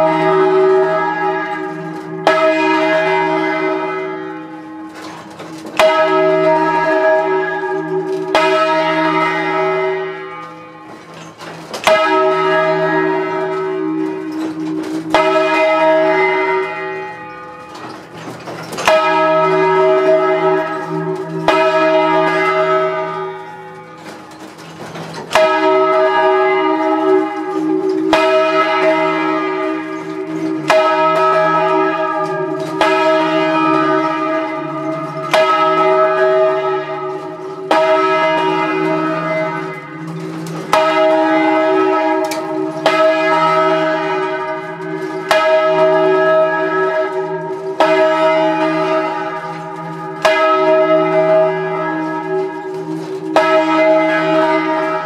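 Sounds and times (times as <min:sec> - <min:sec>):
church bell ringing: 0:00.0 - 0:55.0.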